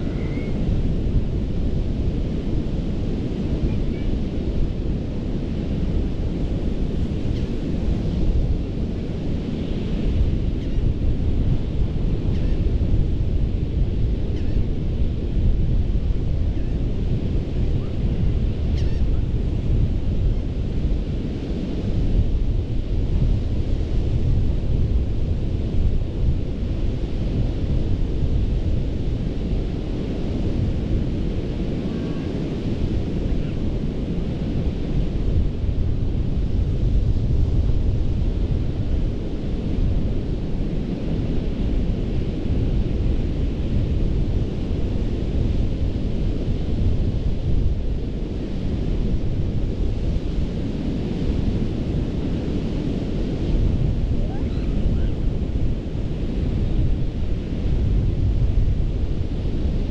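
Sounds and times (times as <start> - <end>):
wind buffeting the microphone: 0.0 - 59.9
surf breaking on a beach: 7.7 - 59.9.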